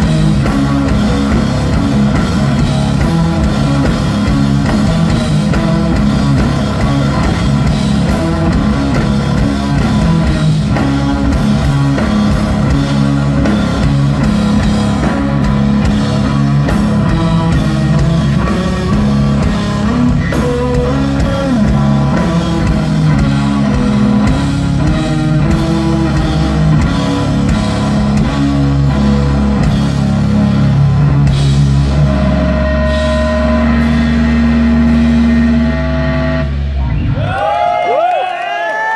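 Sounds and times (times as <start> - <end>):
electric guitar riffing: 0.0 - 37.2
drum kit: 0.0 - 37.8
bass guitar: 0.0 - 38.2.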